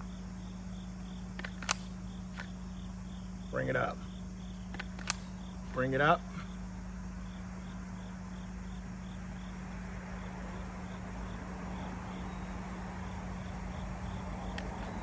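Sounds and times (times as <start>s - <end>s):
insect chirping: 0.0s - 15.0s
steady low hum: 0.0s - 15.0s.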